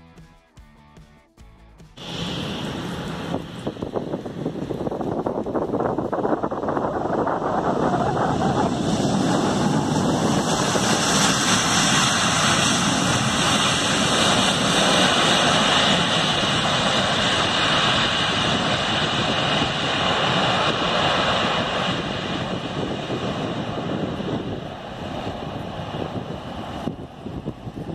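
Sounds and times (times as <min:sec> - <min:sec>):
jet engines in reverse thrust: 0:02.0 - 0:27.9.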